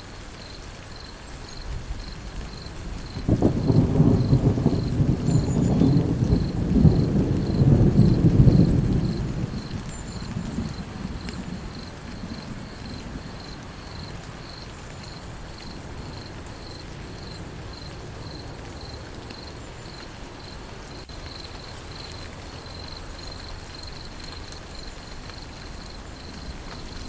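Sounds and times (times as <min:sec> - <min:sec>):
rainfall hiss: 0:00.0 - 0:27.0
insect chirping: 0:00.4 - 0:27.0.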